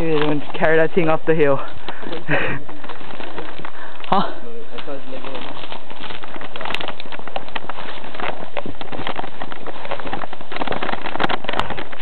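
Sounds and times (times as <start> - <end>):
leaves and branches crackling: 0.0 - 12.0.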